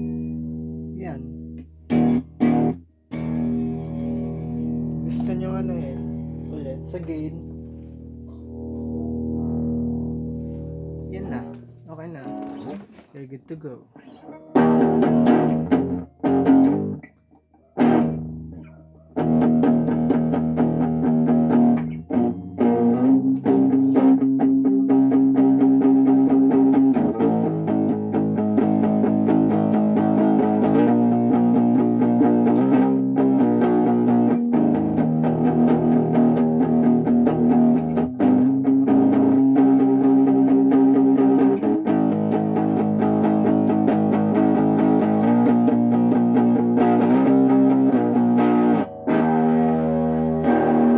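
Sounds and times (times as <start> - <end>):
overdriven electric guitar chords: 0.0 - 13.0, 13.9 - 50.9.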